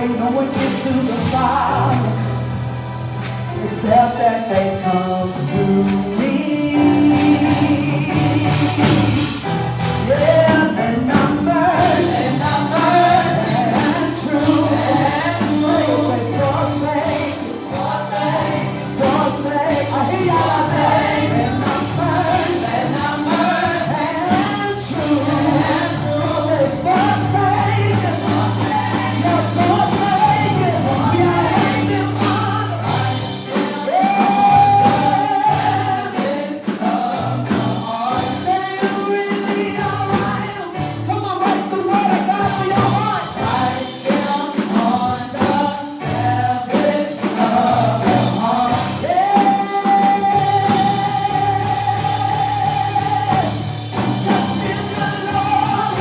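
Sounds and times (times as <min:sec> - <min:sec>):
band with bass line: 0:00.0 - 0:56.0
choir singing gospel: 0:00.0 - 0:56.0.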